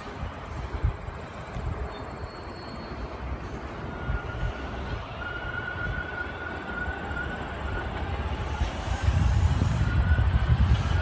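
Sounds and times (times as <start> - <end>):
subway train rumbling on rails: 0.0 - 11.0.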